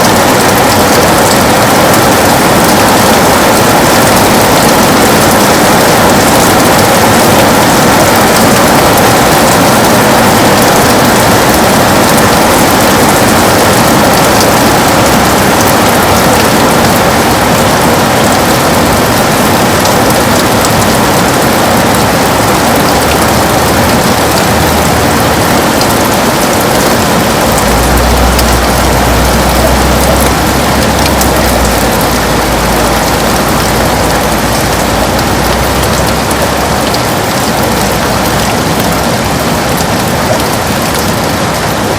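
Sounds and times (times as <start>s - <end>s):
heavy rain on window glass: 0.0s - 41.9s.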